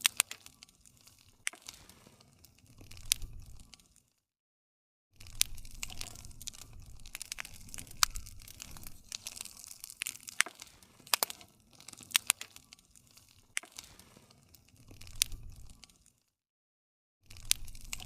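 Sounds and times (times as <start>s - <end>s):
low rumble of flames: 0.0s - 4.0s, 5.2s - 16.2s, 17.3s - 18.0s
campfire crackling and popping: 0.0s - 4.1s, 5.2s - 16.3s, 17.3s - 18.0s.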